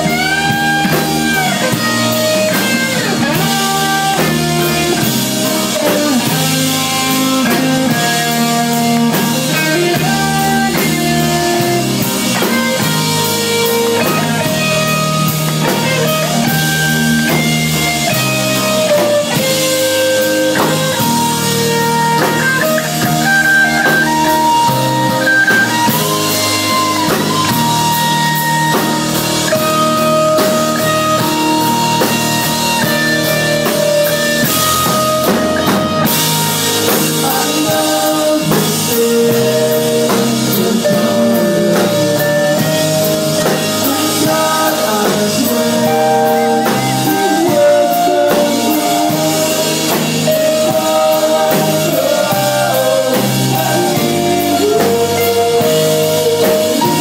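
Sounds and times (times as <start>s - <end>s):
drum kit: 0.0s - 57.0s
electric and acoustic guitars: 0.0s - 57.0s.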